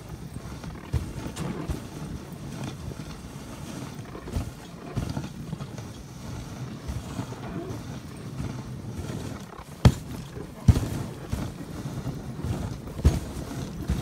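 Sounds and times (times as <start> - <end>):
sled bumps and knocks: 0.0 - 14.0
sled runners hissing on snow: 0.0 - 14.0.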